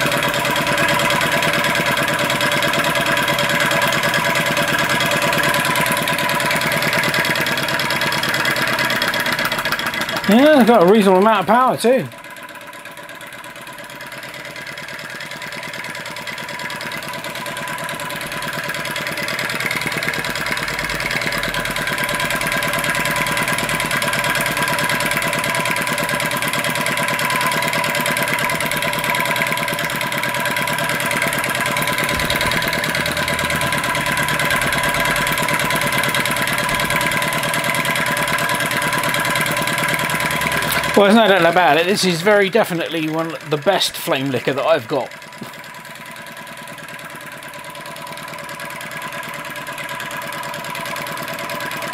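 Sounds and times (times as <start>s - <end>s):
model engine running fast: 0.0s - 51.9s.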